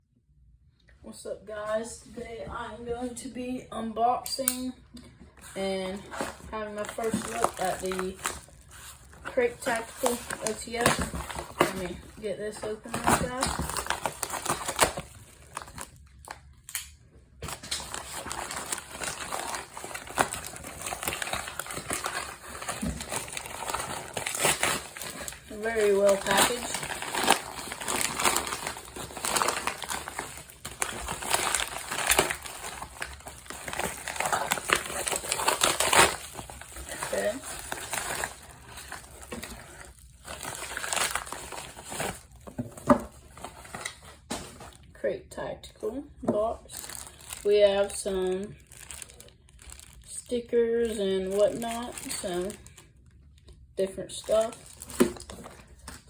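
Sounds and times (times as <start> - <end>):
packaging crinkling and rustling: 5.3 - 44.9, 46.6 - 53.6, 54.2 - 56.0.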